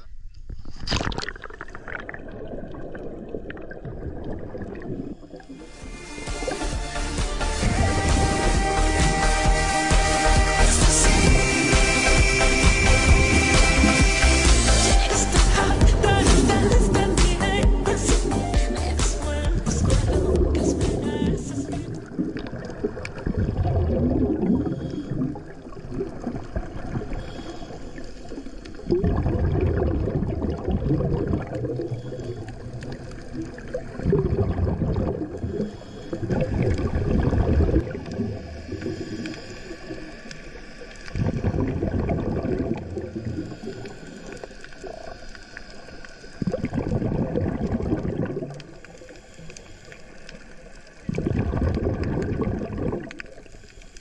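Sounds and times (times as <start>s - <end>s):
scuba exhaust bubbles underwater: 0.8s - 54.0s.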